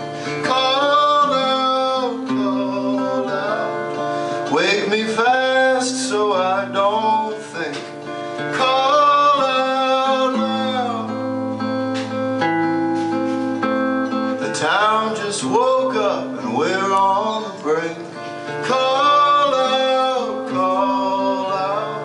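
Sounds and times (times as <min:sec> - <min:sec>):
man singing: 0:00.0 - 0:11.7, 0:14.3 - 0:22.0
acoustic guitar playing: 0:00.0 - 0:22.0.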